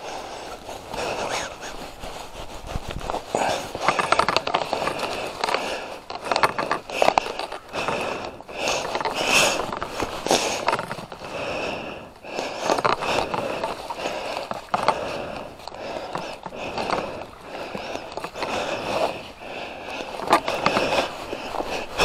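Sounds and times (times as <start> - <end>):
gloves scraping and rustling: 0.0 - 22.0
ski boot buckles clicking: 0.0 - 22.0.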